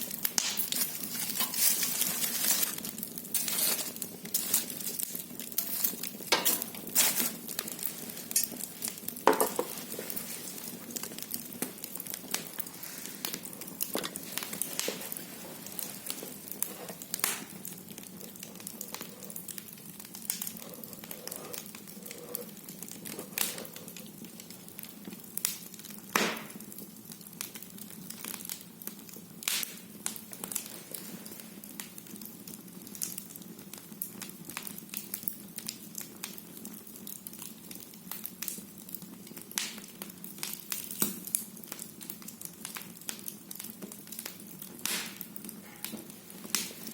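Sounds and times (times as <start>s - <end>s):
firewood crackling and popping: 0.0s - 46.9s.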